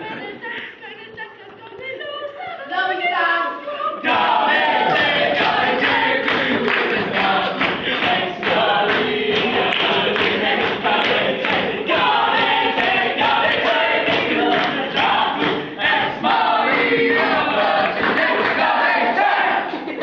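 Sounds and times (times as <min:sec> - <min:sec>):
children singing in a group: 0:03.5 - 0:19.8.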